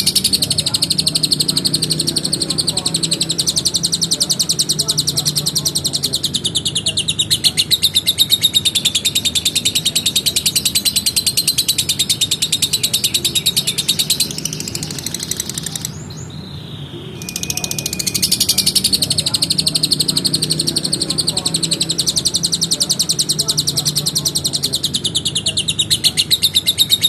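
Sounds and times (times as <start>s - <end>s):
lovebird chattering: 0.0s - 16.5s, 17.2s - 27.0s.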